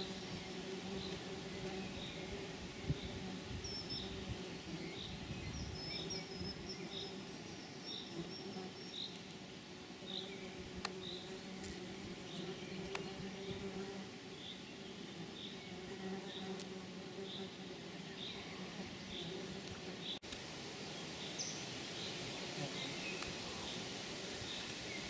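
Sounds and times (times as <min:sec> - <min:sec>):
insect buzzing: 0:00.0 - 0:25.0.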